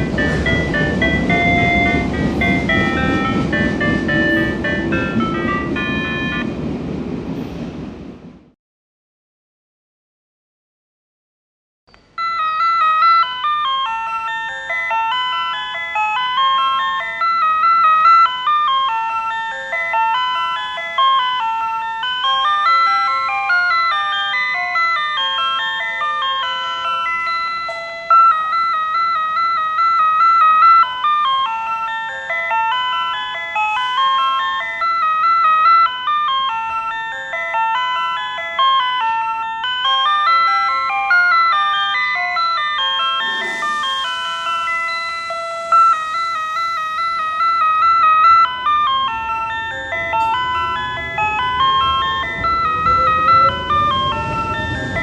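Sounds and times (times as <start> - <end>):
looping electronic chime melody: 0.0 - 6.6, 12.1 - 55.0.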